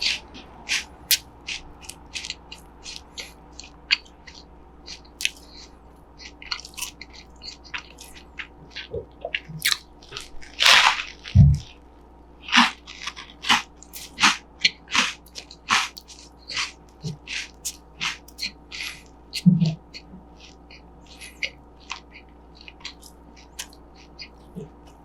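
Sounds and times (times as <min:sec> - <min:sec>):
crunchy food being chewed: 0:00.0 - 0:25.0.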